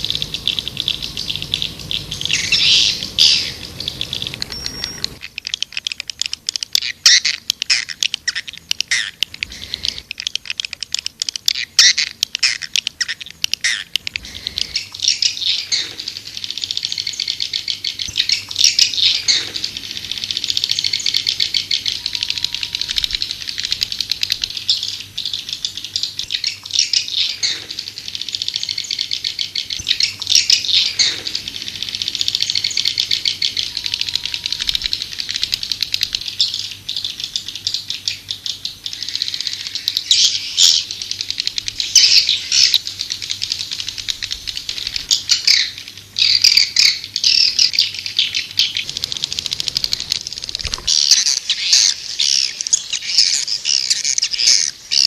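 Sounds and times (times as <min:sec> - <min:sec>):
swiftlets twittering: 0:00.0 - 0:55.0.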